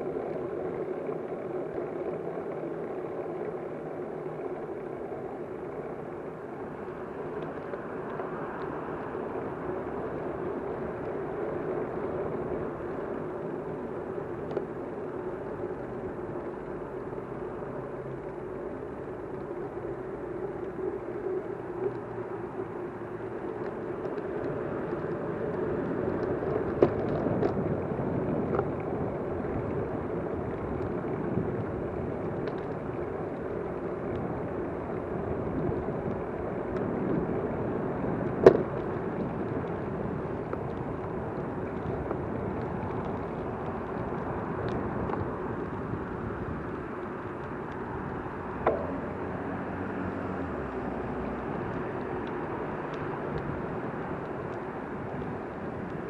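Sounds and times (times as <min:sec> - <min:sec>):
vehicle rumbling drone: 0:00.0 - 0:56.0.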